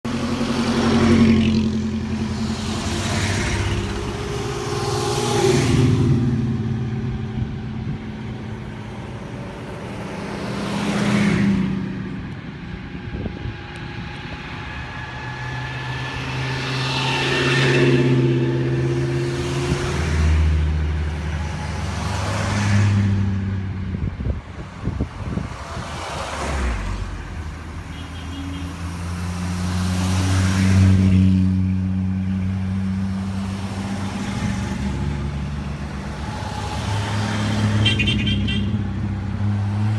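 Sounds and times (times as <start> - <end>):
cars driving past: 0.1 - 39.9.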